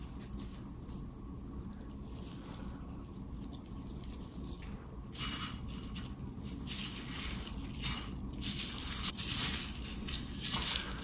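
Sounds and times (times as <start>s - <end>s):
breadcrumbs rustling and crunching: 0.0s - 11.0s
patty squishing in egg: 0.0s - 11.0s.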